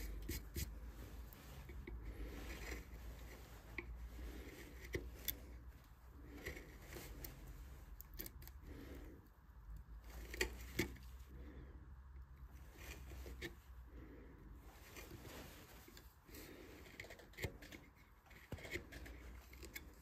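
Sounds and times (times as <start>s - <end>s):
carving tools scraping wood: 0.0s - 9.2s, 9.8s - 11.6s, 12.4s - 20.0s.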